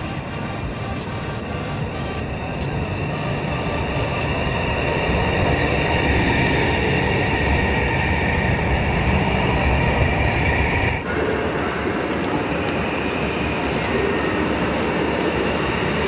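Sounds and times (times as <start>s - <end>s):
high-speed train rushing past: 0.0s - 16.0s.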